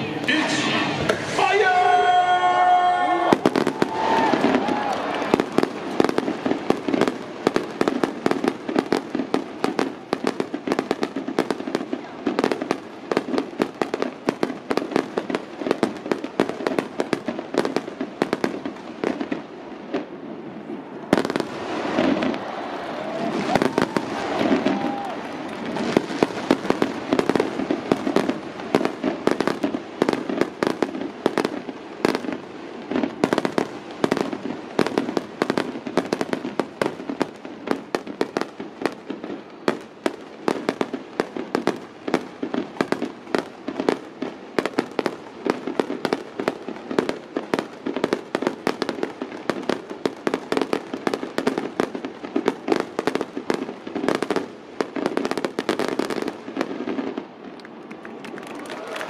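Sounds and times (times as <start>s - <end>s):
fireworks banging: 0.0s - 59.0s.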